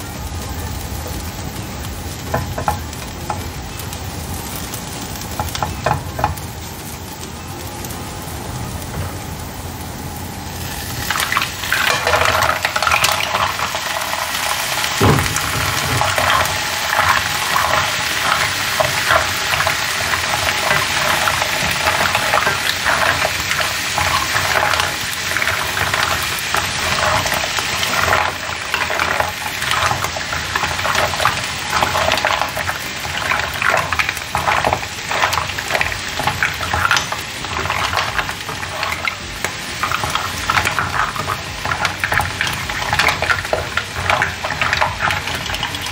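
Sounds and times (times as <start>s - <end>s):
mussels sizzling in a pan: 0.0s - 45.9s.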